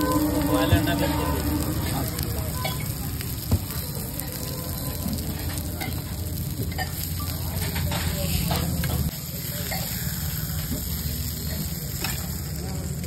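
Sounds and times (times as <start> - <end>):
eggs sizzling: 0.0 - 13.0.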